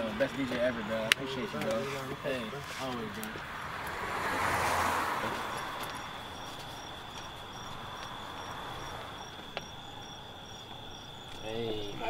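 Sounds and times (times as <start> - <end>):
crickets chirping: 0.0 - 12.0
high insect trill: 0.0 - 12.0.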